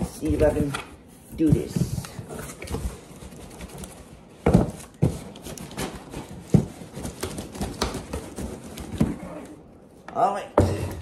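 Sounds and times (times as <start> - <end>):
cardboard scraping and rustling: 0.0 - 9.7.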